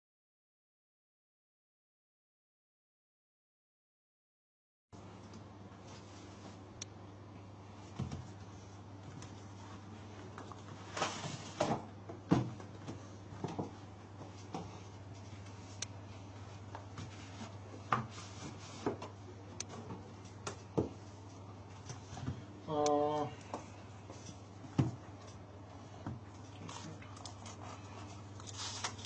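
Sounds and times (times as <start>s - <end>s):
steady low hum: 5.0s - 29.0s.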